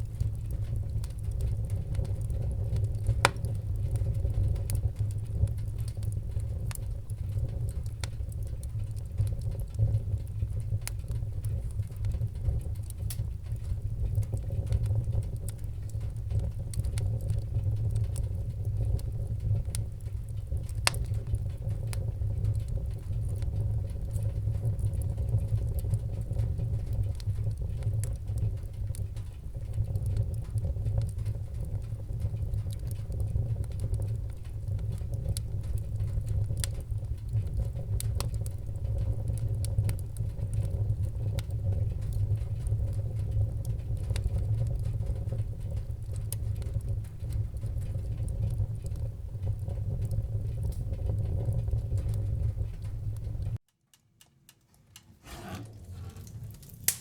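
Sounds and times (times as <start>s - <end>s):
low rumble of flames: 0.0s - 53.6s, 54.9s - 57.0s
fire crackling and popping: 0.0s - 57.0s.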